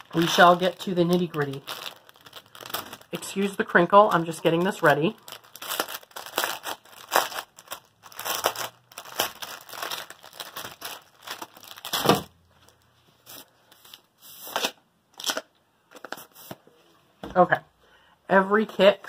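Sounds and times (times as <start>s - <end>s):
packaging crinkling and tearing: 0.0s - 12.3s, 13.2s - 16.6s.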